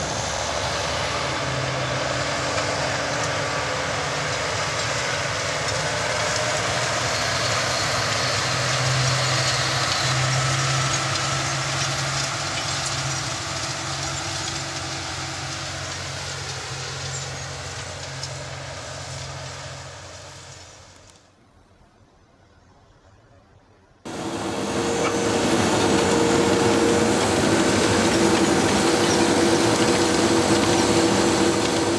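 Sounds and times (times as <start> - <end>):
seed drill working soil: 0.0 - 21.1, 24.1 - 31.9
tractor diesel engine under load: 0.0 - 21.3, 24.0 - 31.9.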